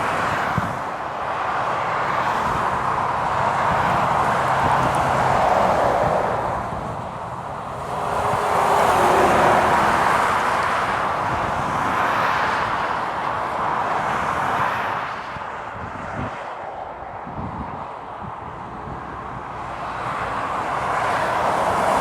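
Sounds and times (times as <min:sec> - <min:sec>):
tyres rushing on wet road: 0:00.0 - 0:22.0.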